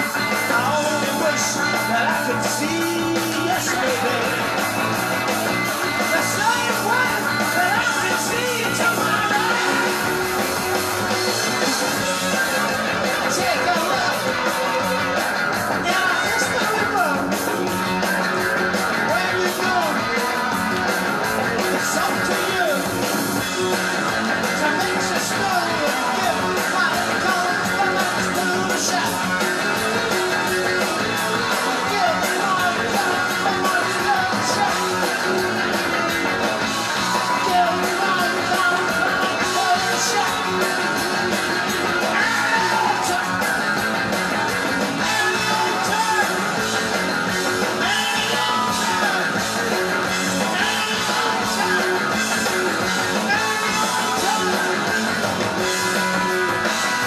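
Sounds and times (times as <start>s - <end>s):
live rock band instrumental: 0.0s - 57.0s.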